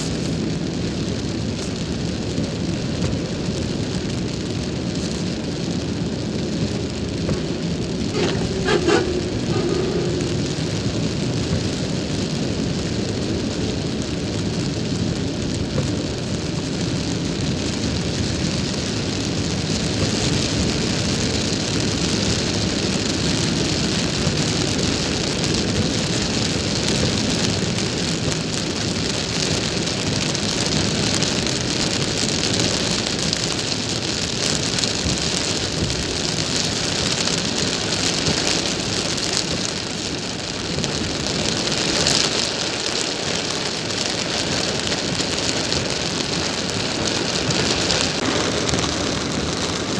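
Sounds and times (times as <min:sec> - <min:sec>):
rain hissing on car: 0:00.0 - 0:49.9.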